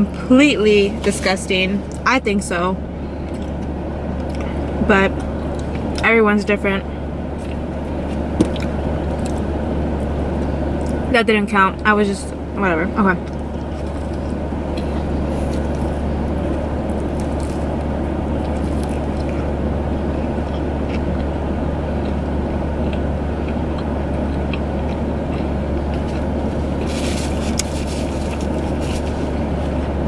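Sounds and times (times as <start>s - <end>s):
car engine hum inside cabin: 0.0s - 30.0s.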